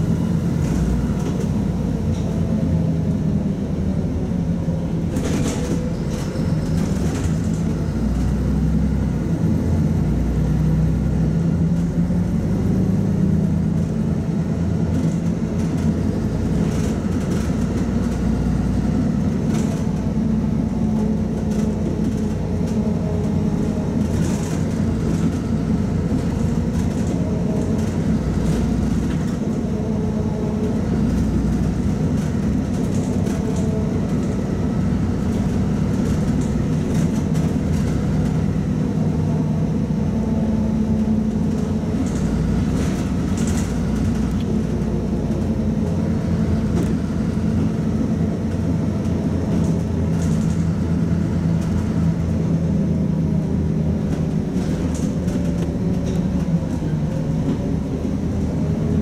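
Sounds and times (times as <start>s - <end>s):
bus body rattles: 0.0s - 59.0s
bus engine humming: 0.0s - 59.0s.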